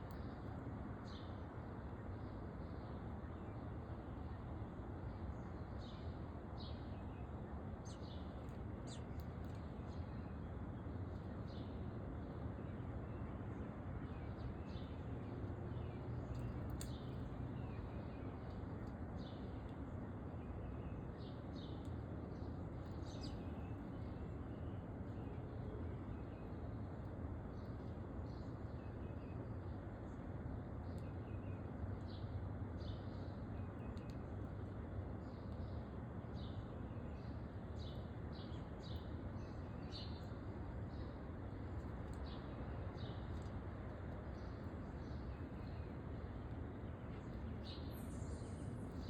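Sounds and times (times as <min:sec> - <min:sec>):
low background hiss and rumble: 0:00.0 - 0:49.0
songbirds chirping: 0:00.0 - 0:49.0.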